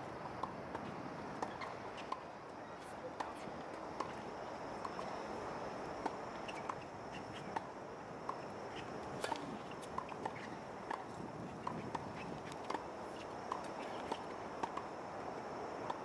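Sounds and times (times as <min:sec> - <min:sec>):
tennis balls bouncing on court: 0:00.2 - 0:02.3, 0:03.1 - 0:14.9.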